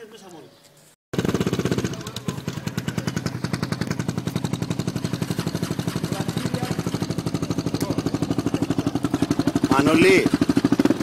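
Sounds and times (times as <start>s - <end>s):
dirt bike engine idling: 1.2s - 11.0s.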